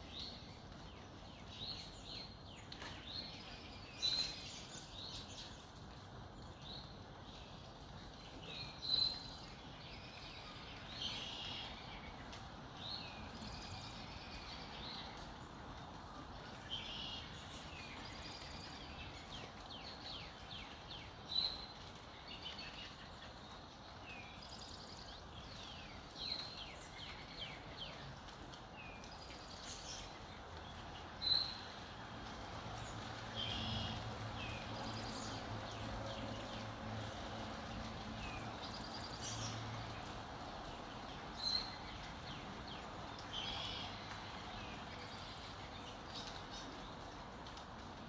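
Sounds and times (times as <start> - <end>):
songbirds chirping and trilling: 0.0 - 48.0.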